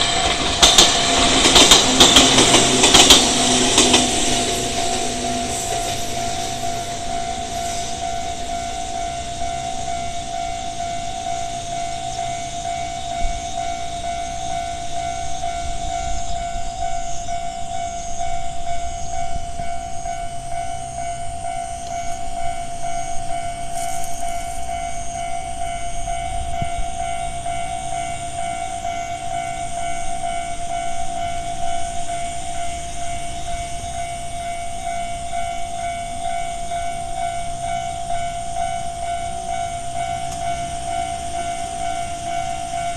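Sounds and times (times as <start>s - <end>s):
level crossing alarm ringing: 0.0s - 42.9s.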